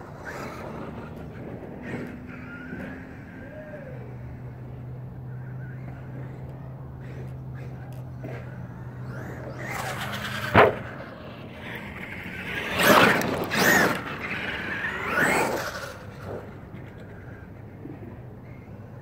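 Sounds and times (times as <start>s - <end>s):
electric motor whining: 0.0s - 17.8s.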